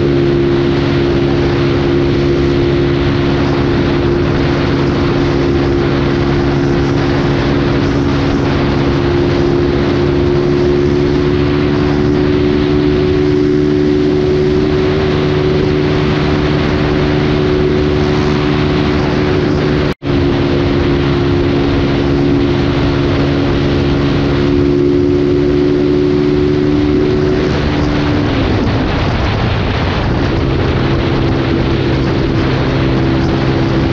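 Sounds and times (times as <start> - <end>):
motorcycle engine droning: 0.0 - 33.9
wind noise on microphone: 0.0 - 33.9.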